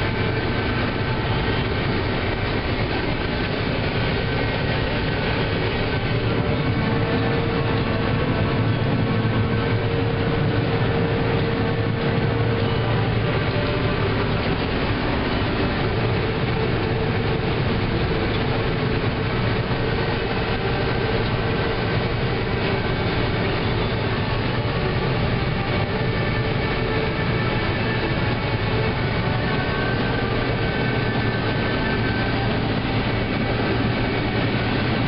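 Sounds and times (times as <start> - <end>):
combine harvester drone: 0.0 - 35.0.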